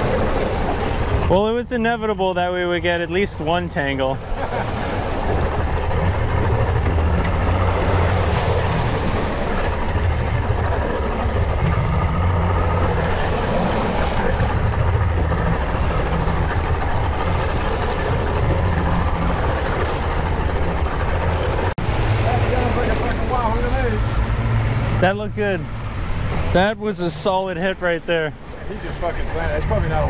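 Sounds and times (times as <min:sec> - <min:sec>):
outboard motor running: 0:00.0 - 0:30.0
waves washing against hull: 0:00.0 - 0:30.0
wind: 0:00.0 - 0:30.0.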